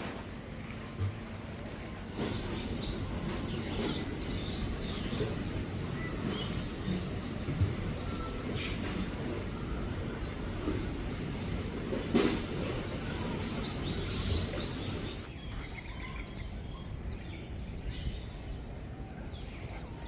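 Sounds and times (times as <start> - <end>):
birds chirping: 0.0 - 16.1.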